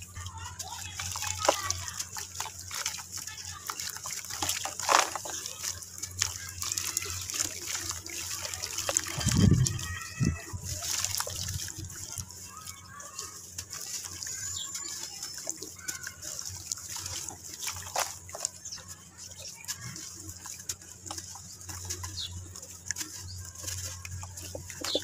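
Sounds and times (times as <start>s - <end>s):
hands crumbling wet dirt: 0.0s - 25.0s
water splashing in basin: 0.0s - 25.0s.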